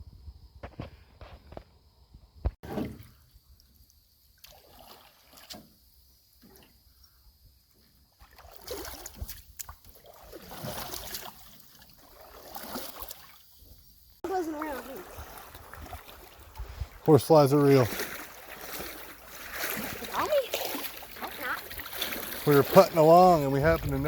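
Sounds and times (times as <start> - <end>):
water lapping and trickling: 2.6 - 24.0.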